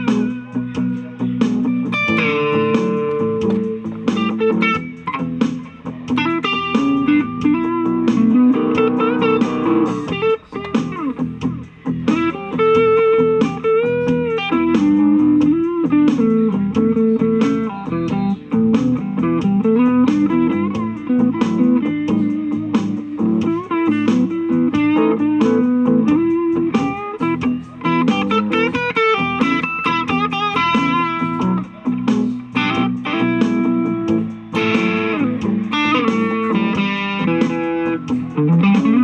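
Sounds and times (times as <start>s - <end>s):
electric guitar blues lines: 0.0s - 39.0s.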